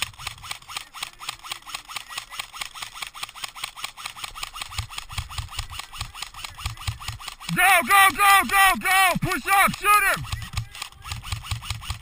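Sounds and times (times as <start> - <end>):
airsoft gun firing full auto: 0.0 - 7.5, 9.4 - 12.0
gearbox whirring: 0.0 - 12.0.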